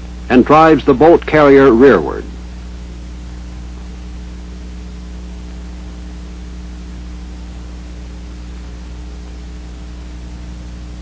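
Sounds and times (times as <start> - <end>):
film soundtrack hiss: 0.0 - 11.0
low hum: 0.0 - 11.0.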